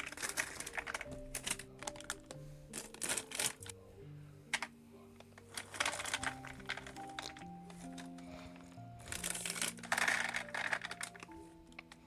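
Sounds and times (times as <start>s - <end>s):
plastic packaging crinkling: 0.0s - 3.8s, 5.4s - 12.0s
soft sustained background music: 0.0s - 12.0s.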